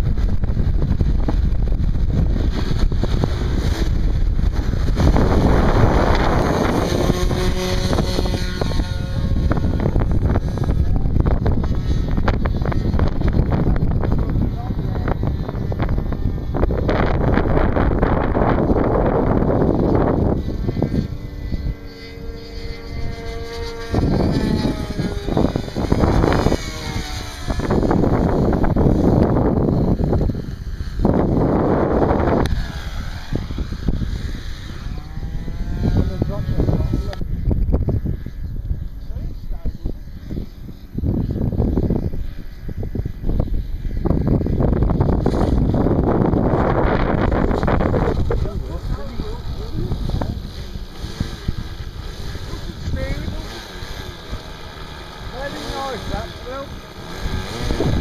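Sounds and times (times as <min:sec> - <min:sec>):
model plane motor: 0:00.0 - 0:58.0
wind buffeting microphone: 0:00.0 - 0:58.0.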